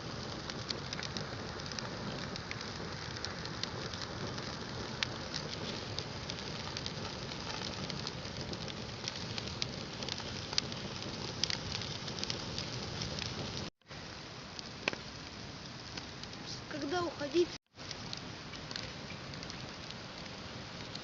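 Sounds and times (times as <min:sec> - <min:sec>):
bonfire crackling and hissing: 0:00.0 - 0:21.0.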